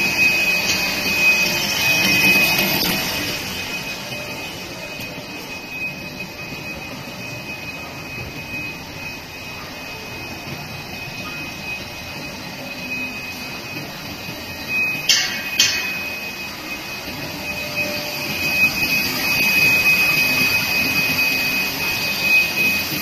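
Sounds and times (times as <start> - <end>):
machine motors and rollers humming: 0.0 - 23.0
thin high whine: 0.0 - 23.0.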